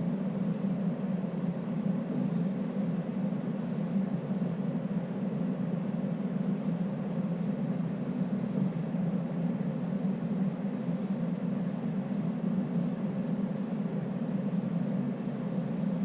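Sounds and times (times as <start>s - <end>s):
electric heater whirring: 0.0s - 16.0s.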